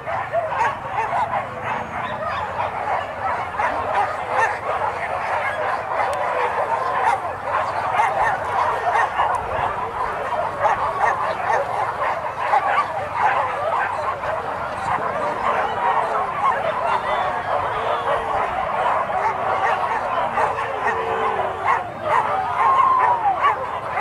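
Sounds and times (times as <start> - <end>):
dogs barking and yelping: 0.0 - 24.0.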